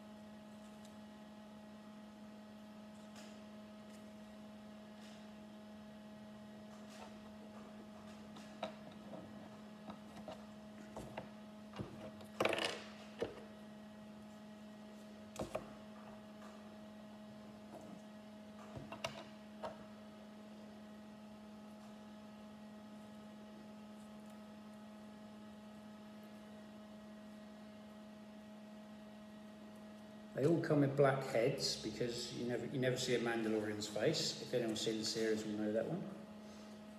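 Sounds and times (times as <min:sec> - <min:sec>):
electrical hum: 0:00.0 - 0:36.9.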